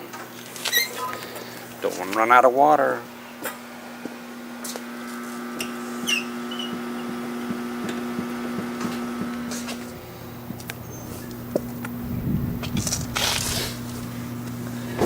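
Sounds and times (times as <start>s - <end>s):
water pump humming: 0.0s - 15.0s.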